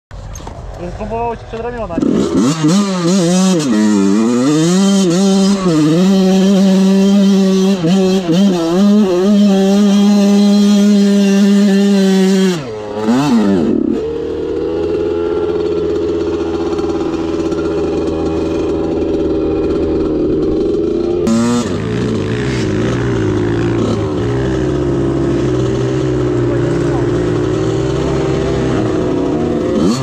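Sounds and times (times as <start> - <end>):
motorcycle engine revving: 0.2 - 30.0.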